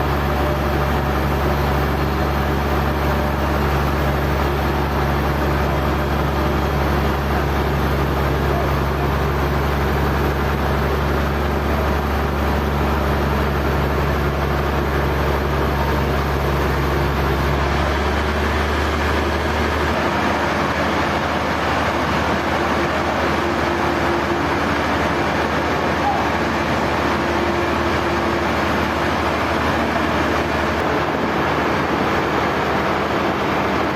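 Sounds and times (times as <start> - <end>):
sawmill machinery running: 0.0 - 33.9.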